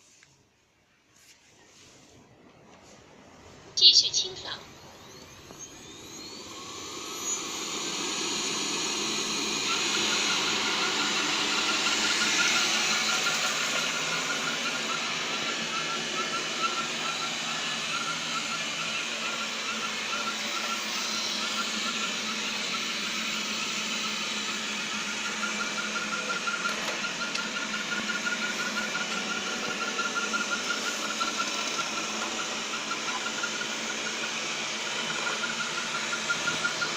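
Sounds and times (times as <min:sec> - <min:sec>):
high-pitched squeal: 0:03.8 - 0:36.9
vacuum cleaner motor running: 0:04.6 - 0:36.9.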